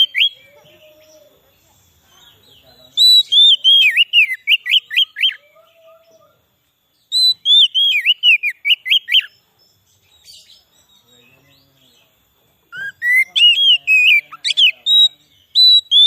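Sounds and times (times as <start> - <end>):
bird singing whistled notes: 0.0 - 1.4, 2.4 - 16.0.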